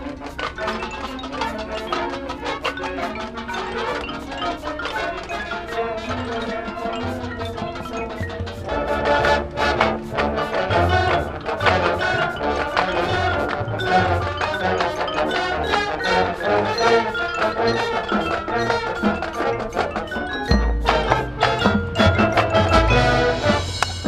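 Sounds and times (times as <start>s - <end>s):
mallet percussion runs: 0.0s - 24.0s
marching band playing: 0.0s - 24.0s.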